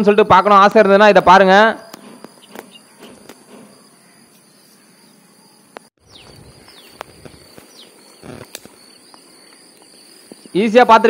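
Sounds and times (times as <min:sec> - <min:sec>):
falling bird chirps: 0:01.6 - 0:11.0
high-pitched insect drone: 0:01.8 - 0:11.0.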